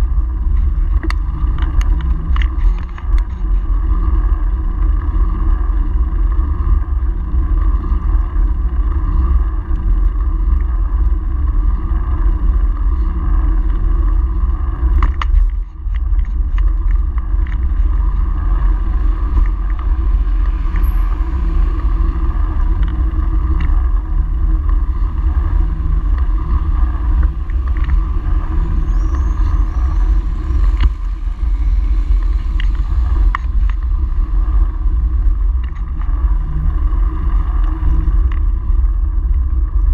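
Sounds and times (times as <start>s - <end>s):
road rumble: 0.0s - 39.9s
wind buffeting microphone: 0.0s - 39.9s.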